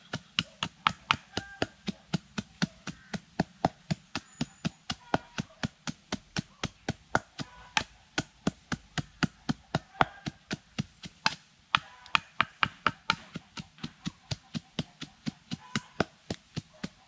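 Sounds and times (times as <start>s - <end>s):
pestle pounding in clay mortar: 0.0s - 17.0s.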